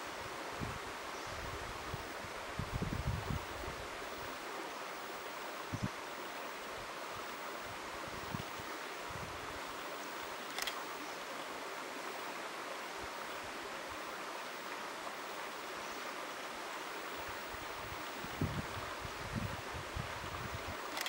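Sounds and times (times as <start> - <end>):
river water rushing: 3.4 - 21.0.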